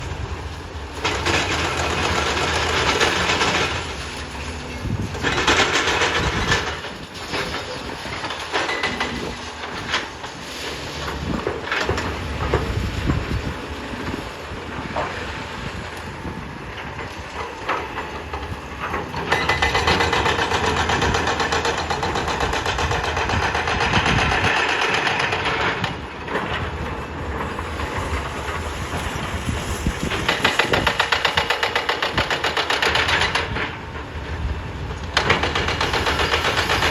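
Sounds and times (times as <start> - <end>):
debris crashing and grinding: 0.0 - 34.2
heavy engine running: 0.0 - 36.9.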